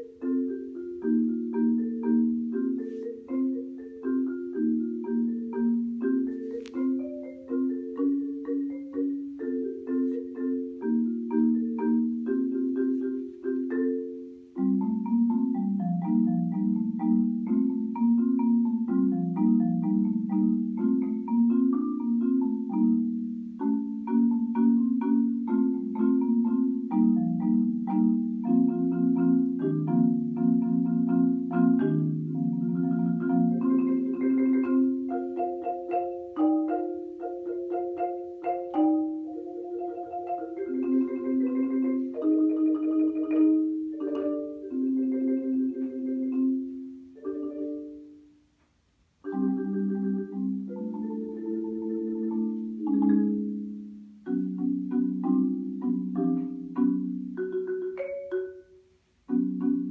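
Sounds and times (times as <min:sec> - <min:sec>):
marimba played with mallets: 0:00.0 - 0:59.9.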